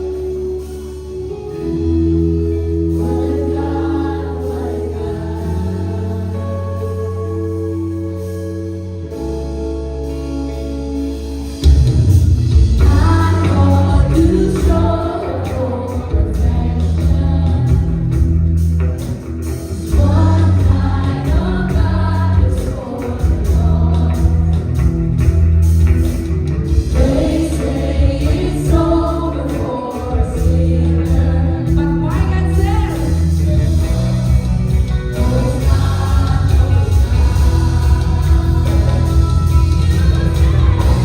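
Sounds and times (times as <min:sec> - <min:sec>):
gospel band and singers: 0:00.0 - 0:41.0
steady bass line: 0:00.0 - 0:41.0.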